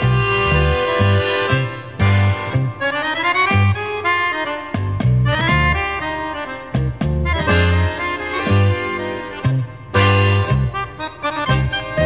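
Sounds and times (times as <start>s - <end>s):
background music with bass note: 0.0s - 12.0s.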